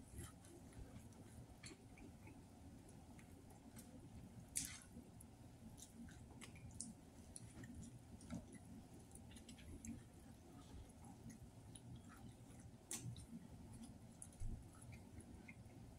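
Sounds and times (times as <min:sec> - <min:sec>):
chewing fries: 0:00.0 - 0:15.9.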